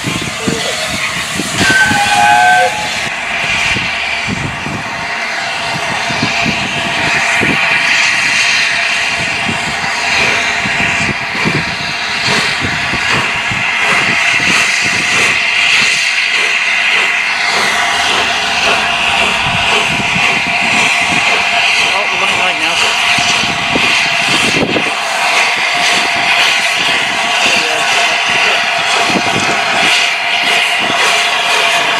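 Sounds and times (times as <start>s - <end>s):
steam hissing: 0.0s - 31.9s
steam locomotive exhaust beats: 0.0s - 31.9s.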